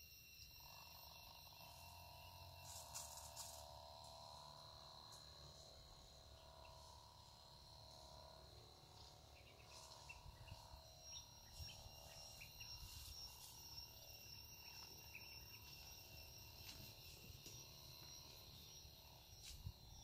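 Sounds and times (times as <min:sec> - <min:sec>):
high insect calls: 0:00.0 - 0:20.0.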